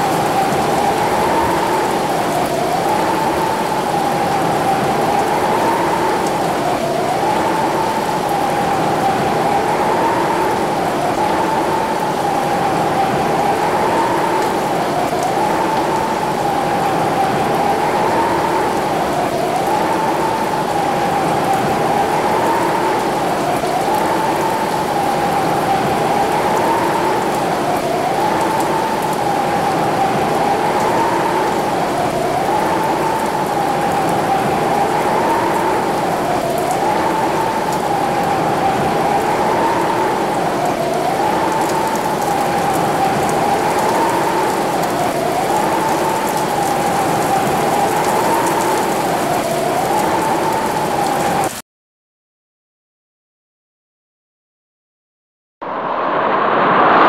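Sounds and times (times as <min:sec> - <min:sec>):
heavy rain pouring: 0:00.0 - 0:51.6.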